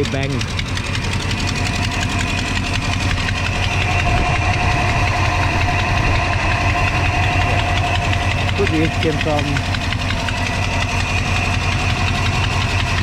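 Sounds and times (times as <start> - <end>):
engine idling: 0.0 - 13.0
rapid exhaust ticking: 0.0 - 13.0.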